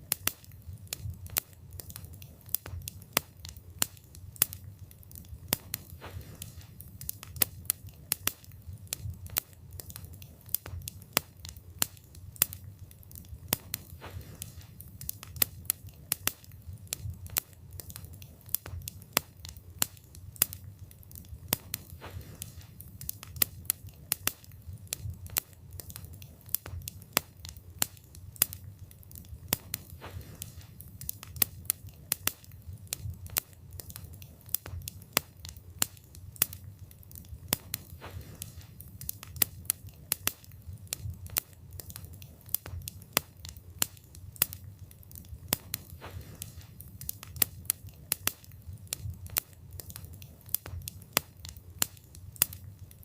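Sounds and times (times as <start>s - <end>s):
burning wood crackling and popping: 0.0s - 53.0s
low rumble of fire: 0.0s - 53.0s.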